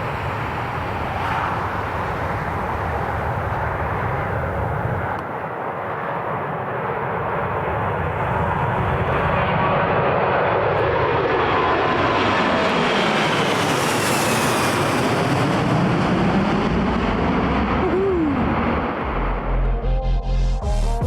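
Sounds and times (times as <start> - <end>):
jet engine roar: 0.0 - 19.8.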